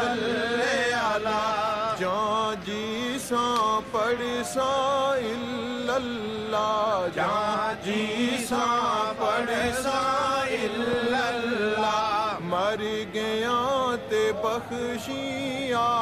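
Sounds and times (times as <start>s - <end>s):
men chanting slow melody: 0.0s - 16.0s.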